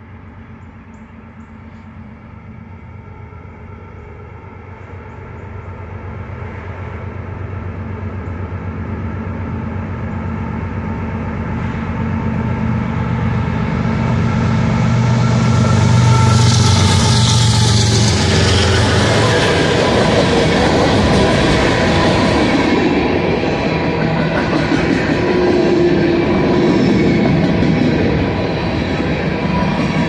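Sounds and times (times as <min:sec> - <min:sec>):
diesel locomotive engines droning: 0:00.0 - 0:30.0
train wheels on rails: 0:00.0 - 0:30.0.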